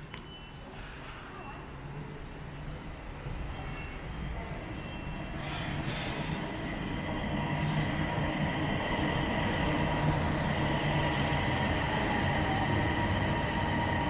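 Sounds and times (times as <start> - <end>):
train approaching with whine: 2.4 - 14.0.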